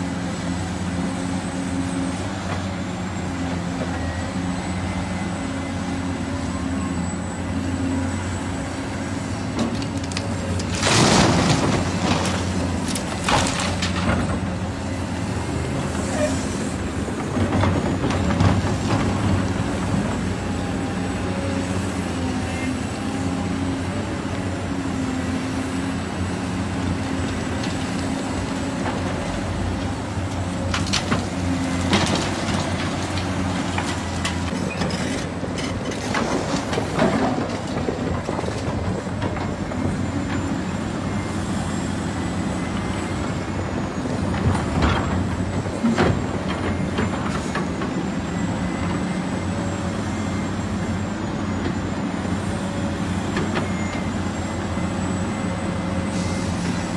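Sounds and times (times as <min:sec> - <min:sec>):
heavy diesel machinery running: 0:00.0 - 0:56.9.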